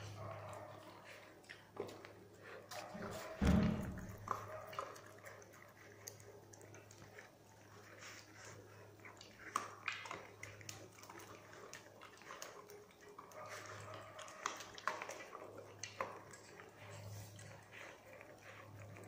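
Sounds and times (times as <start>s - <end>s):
dogs chewing: 0.0s - 19.0s.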